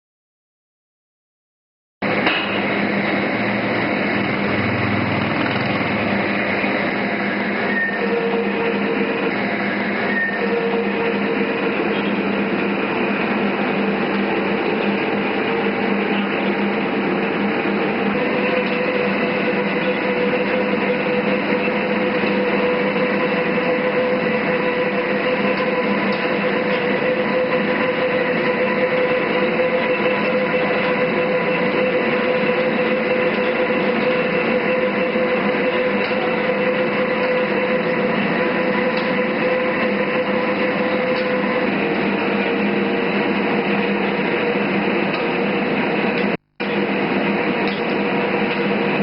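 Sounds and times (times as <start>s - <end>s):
lathe gearbox humming and whining: 2.0s - 49.0s.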